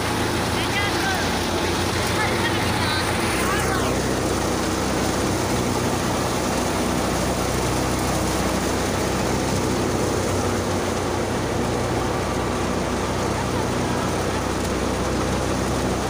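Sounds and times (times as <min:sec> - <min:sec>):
tractor diesel engine humming: 0:00.0 - 0:16.0.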